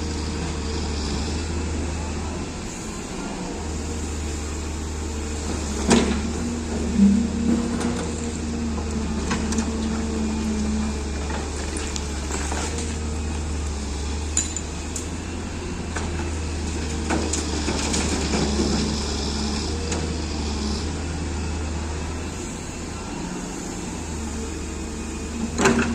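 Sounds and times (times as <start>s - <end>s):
diesel engine running under load: 0.0s - 25.9s.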